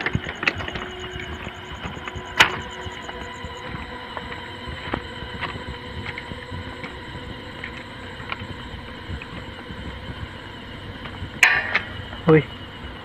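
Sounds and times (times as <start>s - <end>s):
distant highway traffic: 0.0s - 13.0s
faint hum: 0.0s - 13.0s.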